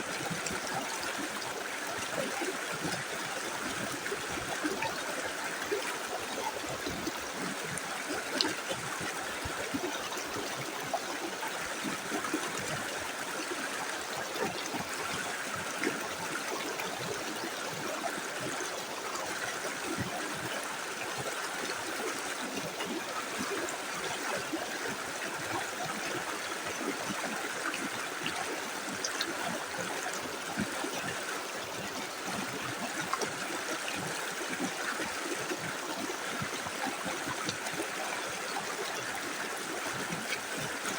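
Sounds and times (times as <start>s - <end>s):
river flowing over stones: 0.0s - 40.9s.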